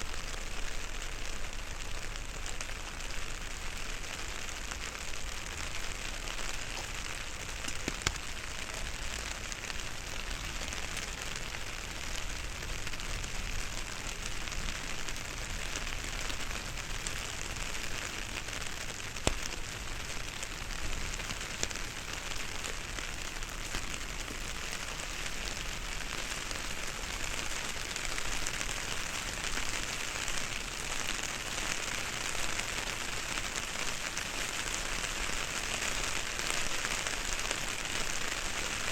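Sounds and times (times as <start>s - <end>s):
rain on an umbrella: 0.0s - 38.9s.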